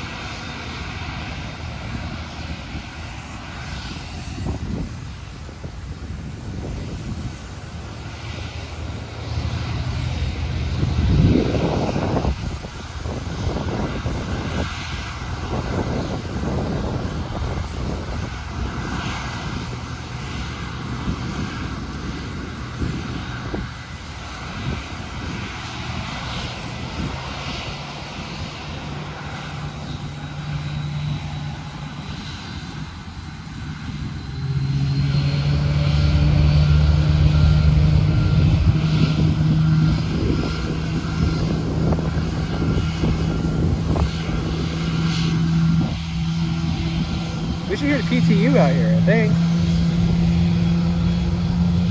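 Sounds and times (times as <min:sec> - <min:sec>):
airplane engines droning: 0:00.0 - 0:51.9.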